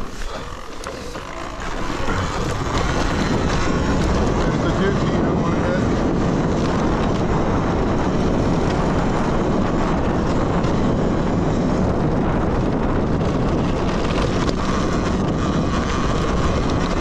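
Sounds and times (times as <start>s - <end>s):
dirt bike rumble: 0.0s - 17.0s
wind rushing over microphone: 0.0s - 17.0s.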